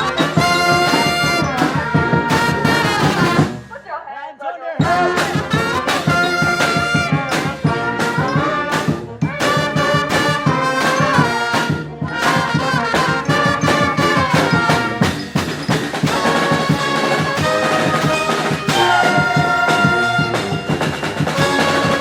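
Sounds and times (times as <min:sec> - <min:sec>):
horns holding sustained notes: 0:00.0 - 0:03.6, 0:04.8 - 0:22.0
brass band playing: 0:00.0 - 0:03.8, 0:04.8 - 0:22.0
steady drum beat: 0:00.0 - 0:03.8, 0:04.8 - 0:22.0.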